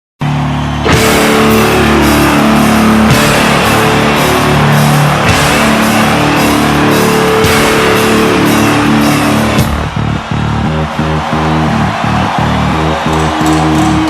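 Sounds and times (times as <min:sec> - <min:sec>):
heavy metal rock music: 0:00.7 - 0:14.0.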